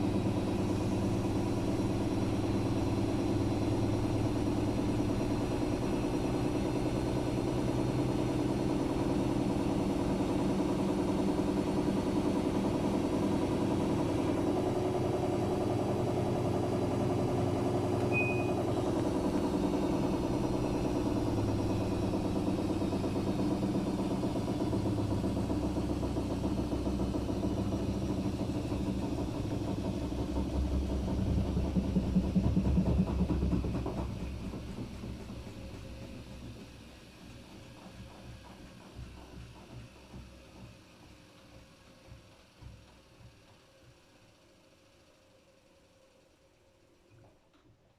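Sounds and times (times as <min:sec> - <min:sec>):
washing machine spinning: 0:00.0 - 0:47.5.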